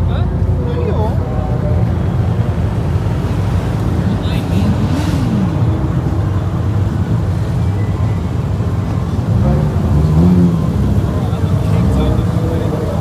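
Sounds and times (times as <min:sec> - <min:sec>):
car engines rumbling: 0:00.0 - 0:13.0
engine revving: 0:02.4 - 0:13.0.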